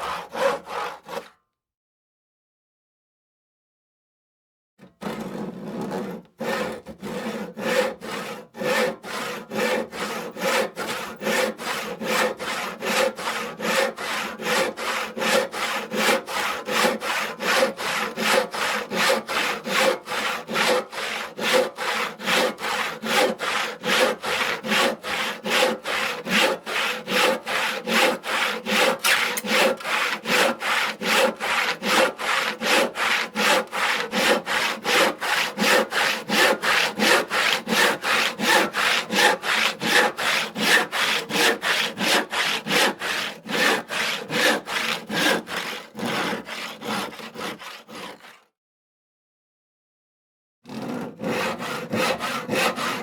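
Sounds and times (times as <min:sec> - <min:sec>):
hand saw cutting wood: 0:00.0 - 0:01.4, 0:04.8 - 0:48.5, 0:50.7 - 0:53.0.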